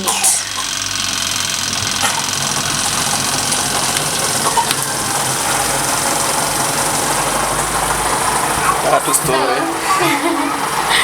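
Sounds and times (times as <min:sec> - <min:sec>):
spin-dryer whirring and humming: 0:00.0 - 0:11.0.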